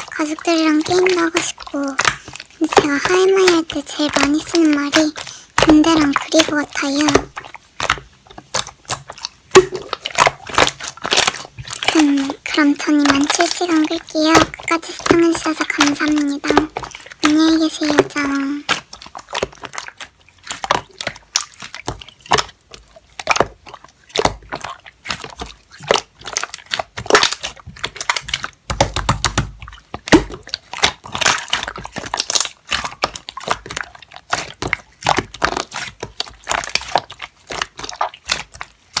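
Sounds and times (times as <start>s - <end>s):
slime squeezed crackling and popping: 0.0s - 39.0s.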